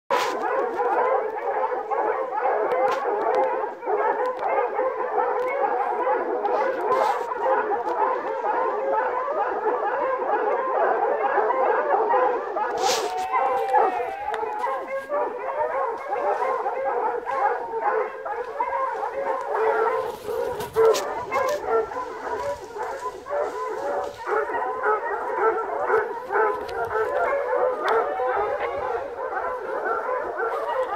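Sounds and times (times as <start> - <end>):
hounds baying: 0.1 - 30.9.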